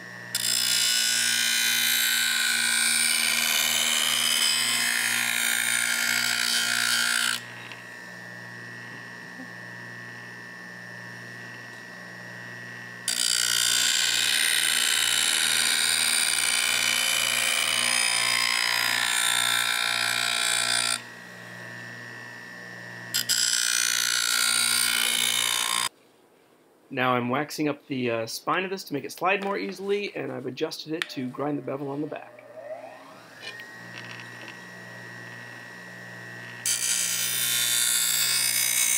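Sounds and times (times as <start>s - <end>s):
grinder motor whine: 0.0s - 25.9s, 31.0s - 38.9s
grinder wheel grinding steel: 0.2s - 25.9s, 31.0s - 38.9s.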